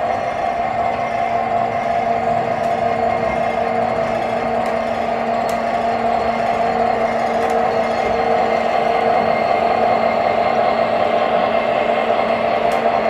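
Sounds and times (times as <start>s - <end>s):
model locomotive drone with whir: 0.0s - 13.0s.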